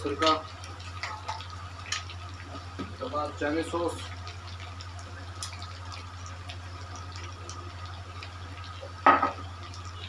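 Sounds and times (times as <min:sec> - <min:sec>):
liquid dripping: 0:00.0 - 0:10.0.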